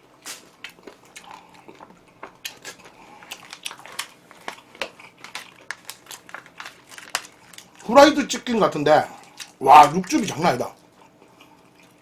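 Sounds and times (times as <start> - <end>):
crispy chicken being chewed: 0.0 - 12.0.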